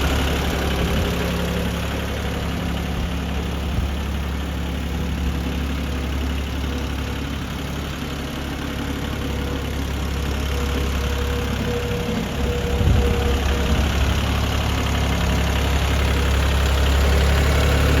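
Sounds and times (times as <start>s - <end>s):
diesel tractor engine idling: 0.0s - 18.0s.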